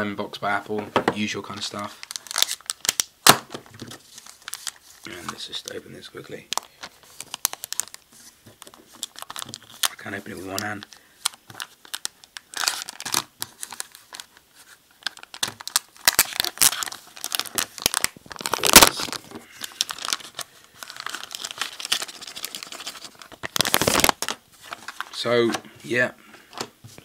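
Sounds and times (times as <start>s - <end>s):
packet tearing and crinkling: 1.8s - 5.8s, 6.5s - 8.0s, 8.6s - 25.2s.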